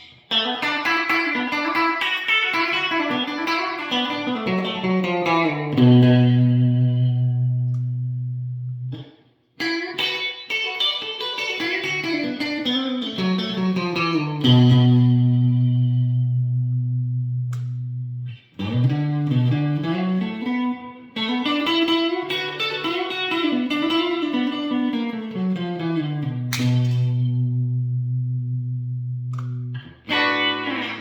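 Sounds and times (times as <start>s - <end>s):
clean electric guitar notes: 2.5s - 9.0s, 11.5s - 31.0s.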